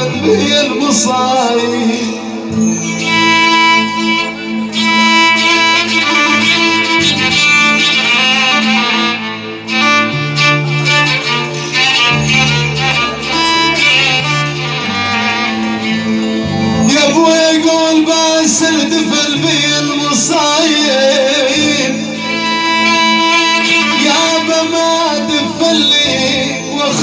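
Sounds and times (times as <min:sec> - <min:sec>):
violin melody: 0:00.0 - 0:27.0.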